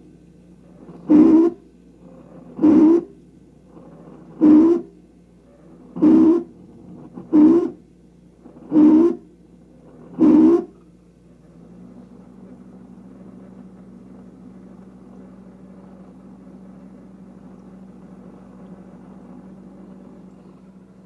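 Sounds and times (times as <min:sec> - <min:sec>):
refrigerator humming: 0:00.0 - 0:21.0.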